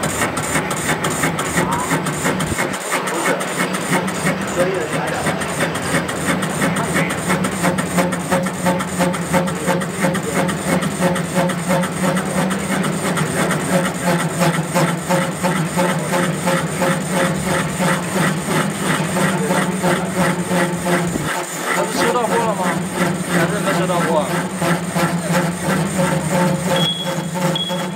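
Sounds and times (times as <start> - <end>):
lathe motor humming: 0.0 - 27.9
lathe tool knocking as it cuts: 0.0 - 27.9.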